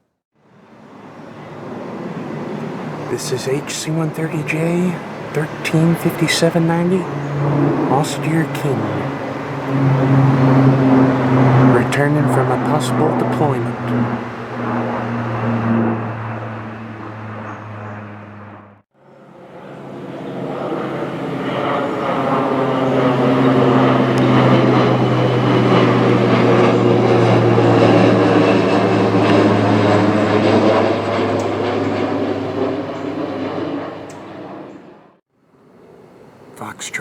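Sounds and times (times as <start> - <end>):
turboprop aircraft droning: 0.0 - 37.0.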